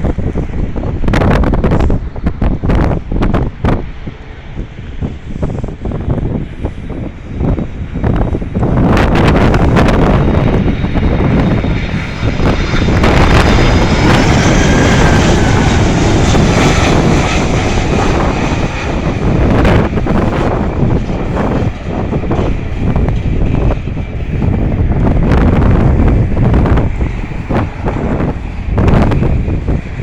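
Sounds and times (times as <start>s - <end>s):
jet engines passing: 0.0s - 30.0s
wind buffeting microphone: 0.0s - 30.0s.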